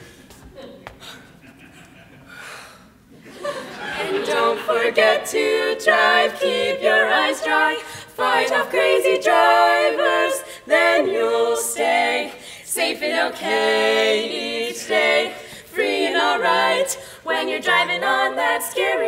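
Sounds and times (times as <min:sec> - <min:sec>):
women singing a cappella harmony: 0:03.4 - 0:19.0.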